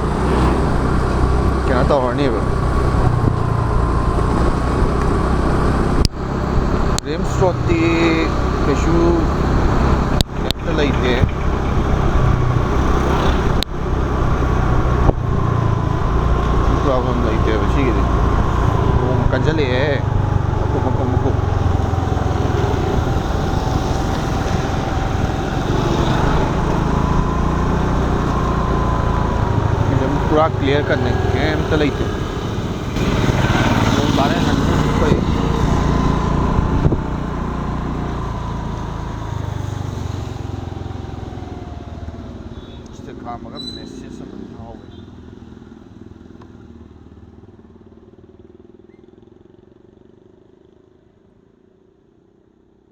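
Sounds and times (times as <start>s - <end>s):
scooter engine running: 0.0s - 42.7s
wind and road noise: 0.0s - 52.9s.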